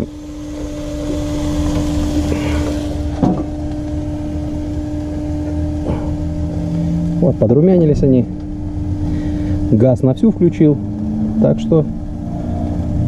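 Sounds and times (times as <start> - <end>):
gas burner hissing: 0.0 - 13.0
low hum: 0.0 - 13.0.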